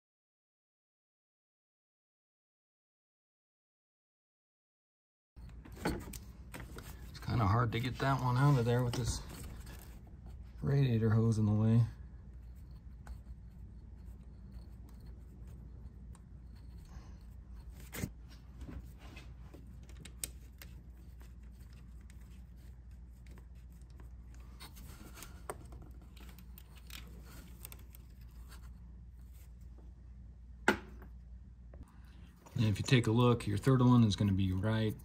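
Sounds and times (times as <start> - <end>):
low steady hum: 5.4 - 35.0.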